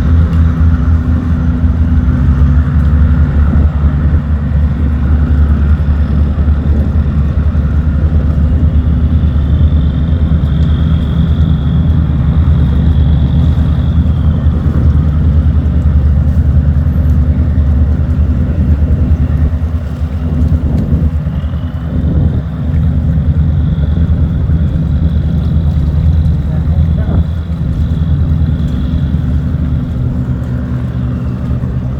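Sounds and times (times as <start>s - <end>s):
tugboat diesel engine drone: 0.0s - 31.9s.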